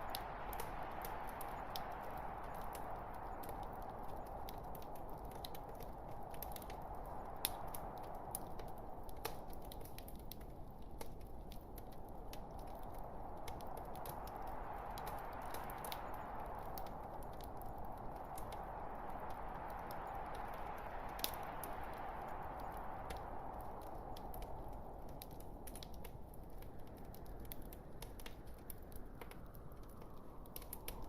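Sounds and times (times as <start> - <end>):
log fire crackling and popping: 0.0 - 31.0.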